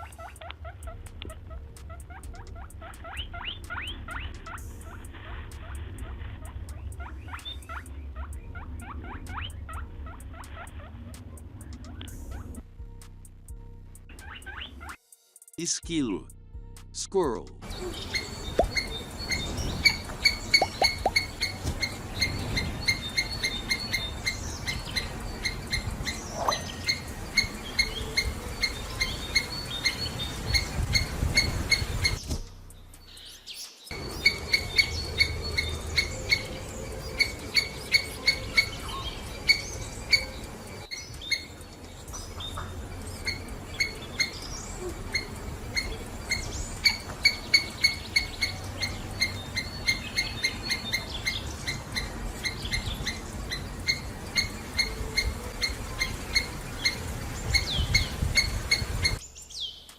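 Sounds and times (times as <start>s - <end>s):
squirrel chirping: 0.0s - 12.7s, 14.1s - 15.0s, 17.6s - 59.9s.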